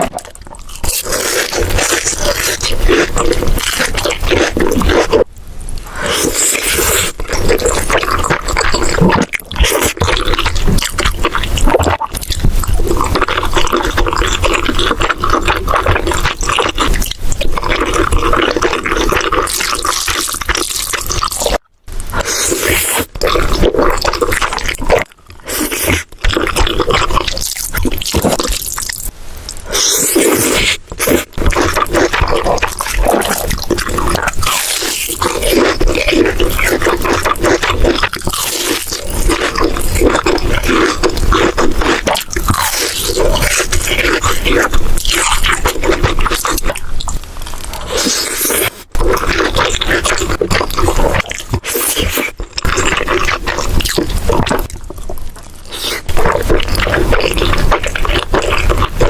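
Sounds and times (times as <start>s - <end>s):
wet chewing and slurping: 0.0s - 59.0s.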